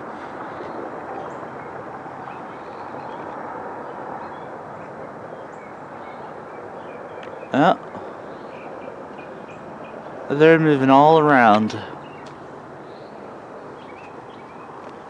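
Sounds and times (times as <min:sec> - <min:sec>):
constant outdoor rushing noise: 0:00.0 - 0:15.0.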